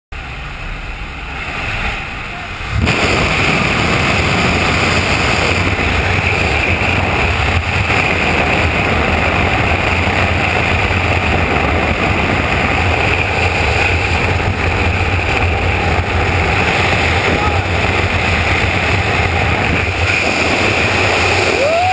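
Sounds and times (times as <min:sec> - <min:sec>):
plane engine and propeller drone: 0:00.2 - 0:21.9
wind rushing past: 0:00.2 - 0:21.9.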